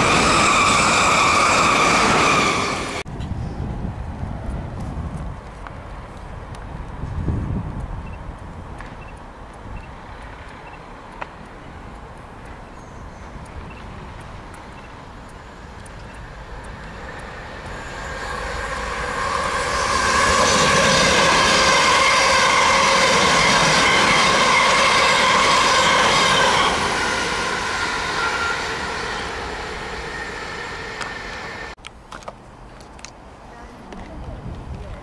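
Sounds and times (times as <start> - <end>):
electric train passing: 0.0 - 31.8.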